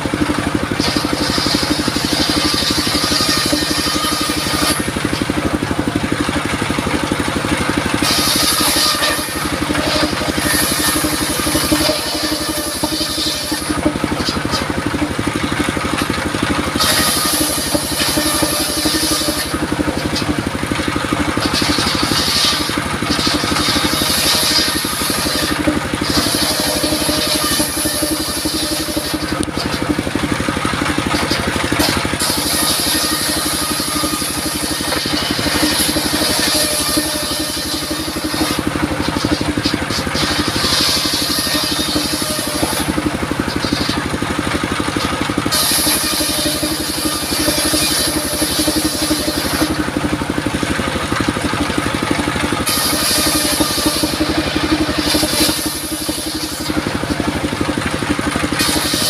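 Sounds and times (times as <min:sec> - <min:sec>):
saw blade cutting wood: 0:00.0 - 0:59.0
sawmill engine running: 0:00.0 - 0:59.0.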